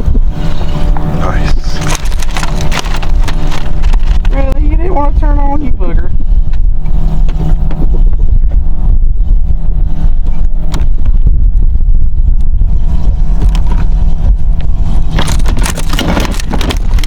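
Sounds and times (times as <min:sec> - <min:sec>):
boat motor hum: 0:00.0 - 0:17.0
wind buffeting microphone: 0:00.0 - 0:17.0.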